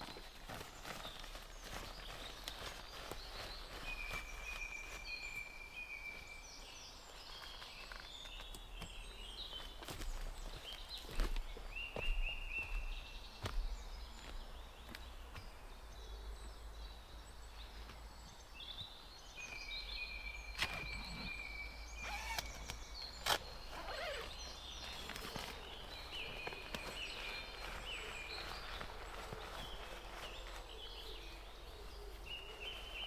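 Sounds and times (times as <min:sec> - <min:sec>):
small birds singing and chirping: 0:00.0 - 0:33.0.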